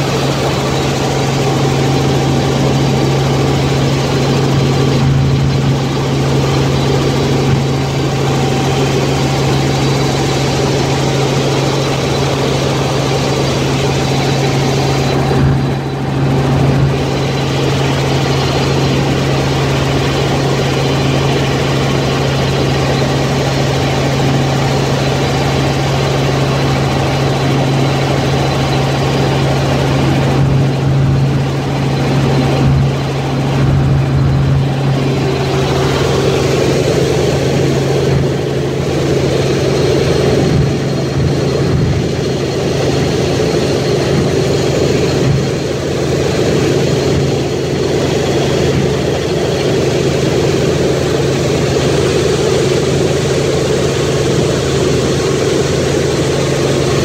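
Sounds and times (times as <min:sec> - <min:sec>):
helicopter engine and rotors drone: 0:00.0 - 0:57.0.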